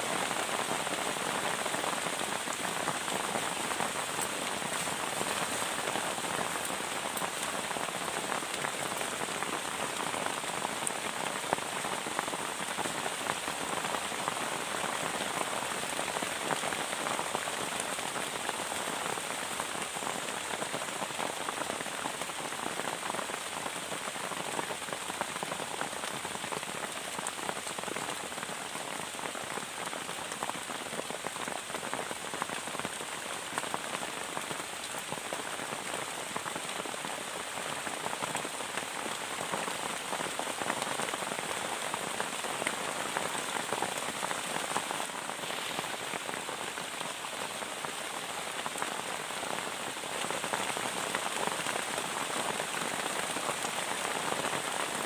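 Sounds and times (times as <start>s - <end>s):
heavy rain on plastic tarp: 0.0s - 55.0s.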